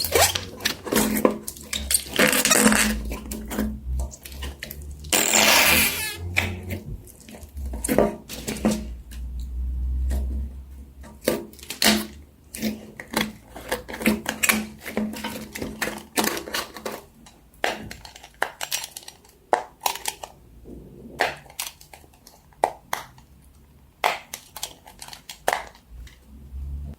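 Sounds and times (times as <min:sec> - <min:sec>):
plastic toys clicking and knocking: 0:00.0 - 0:26.4.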